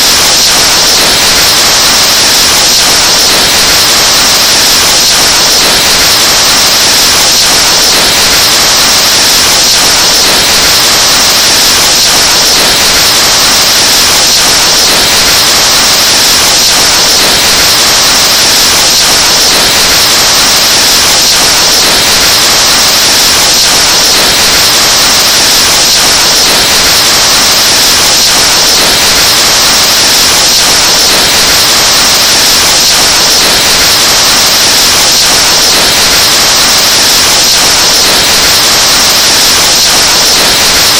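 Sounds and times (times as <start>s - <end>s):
distorted breath hiss into microphone: 0.0s - 40.9s.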